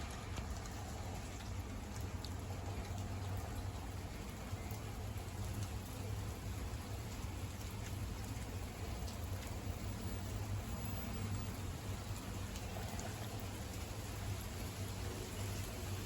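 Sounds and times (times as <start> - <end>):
heavy rain falling: 0.0 - 16.0
raindrops ticking: 0.0 - 16.0.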